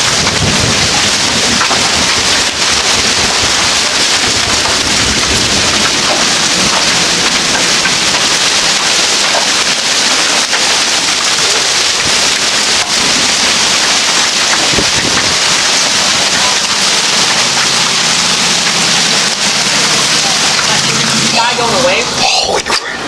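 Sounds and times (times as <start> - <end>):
hail and heavy rain pelting: 0.0 - 22.7.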